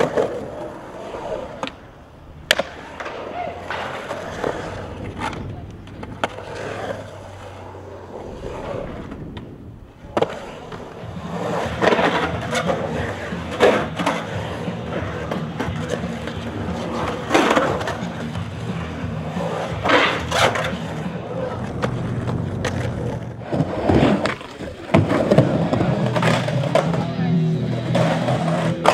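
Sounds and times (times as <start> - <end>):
skateboard clacks and scrapes: 0.0 - 28.9
skateboard wheel rumble: 0.0 - 28.9.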